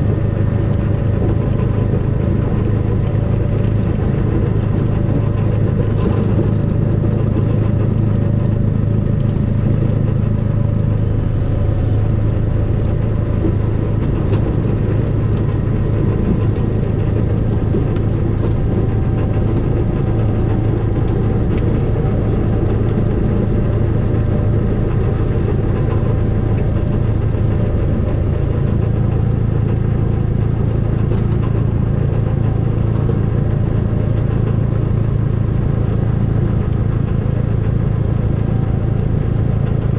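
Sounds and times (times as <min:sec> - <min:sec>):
engine low drone: 0:00.0 - 0:39.9.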